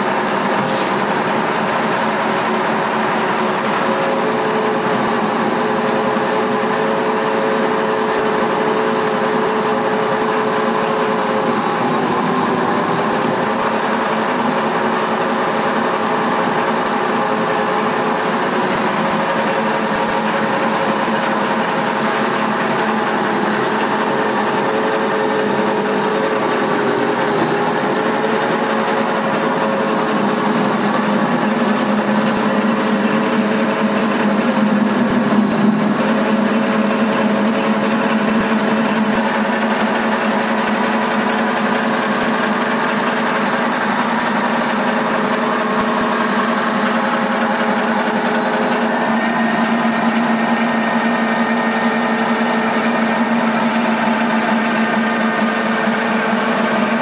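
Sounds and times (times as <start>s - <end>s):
feed crumbler machine hum: 0.0s - 57.0s.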